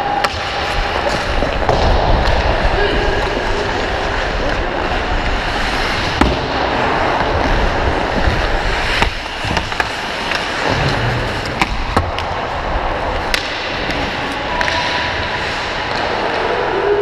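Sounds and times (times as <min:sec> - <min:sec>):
hockey stick and puck clacks: 0:00.0 - 0:04.6, 0:05.6 - 0:16.5
skates scraping on ice: 0:00.0 - 0:17.0
steady rushing noise: 0:00.0 - 0:17.0.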